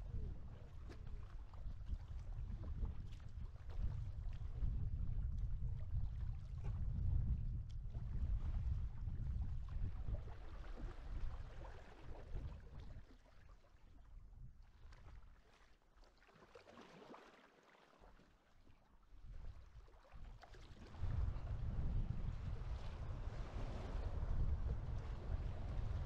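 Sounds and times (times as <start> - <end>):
wind rumble on microphone: 0.0 - 13.2, 13.9 - 15.3, 19.2 - 26.0
water moving along hull: 0.0 - 26.0
paddle splashes and drips: 0.1 - 6.8, 7.7 - 26.0.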